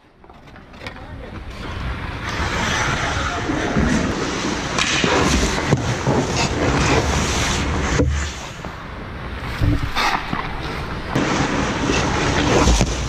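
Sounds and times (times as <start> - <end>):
skates scraping ice: 0.0 - 13.0.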